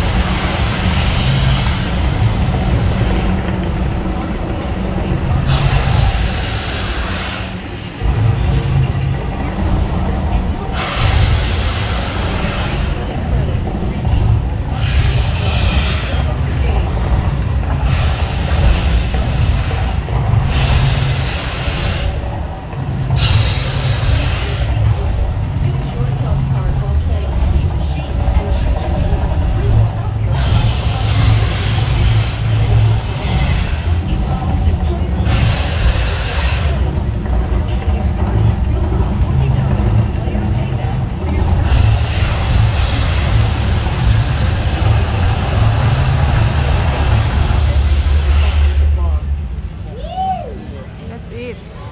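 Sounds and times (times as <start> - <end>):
deep rumble: 0.0 - 50.0.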